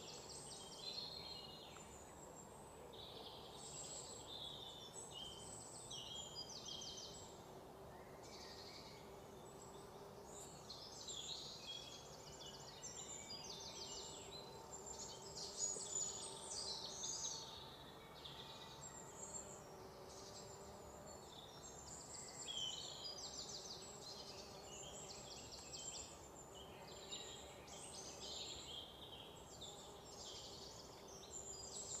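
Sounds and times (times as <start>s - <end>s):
faint outdoor background: 0.0s - 32.0s.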